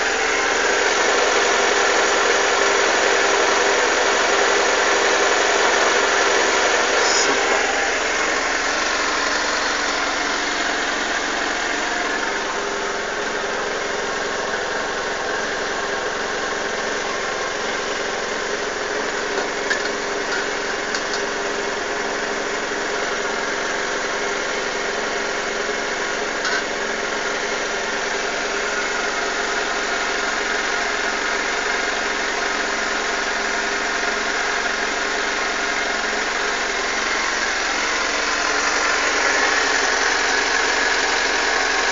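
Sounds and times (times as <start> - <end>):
motorcycle engine idling roughly: 0.0 - 41.9.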